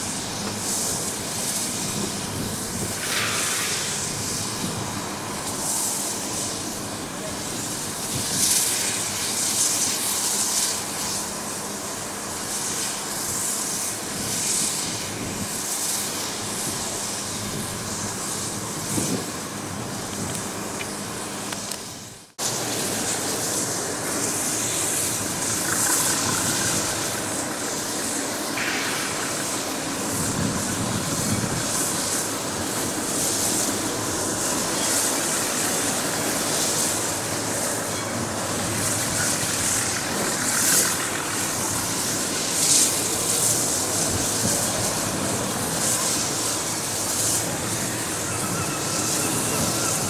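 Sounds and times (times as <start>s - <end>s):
locomotive steam puffs: 0.0s - 50.0s
railway yard rumble: 0.0s - 50.0s
steam locomotive hissing: 0.0s - 50.0s.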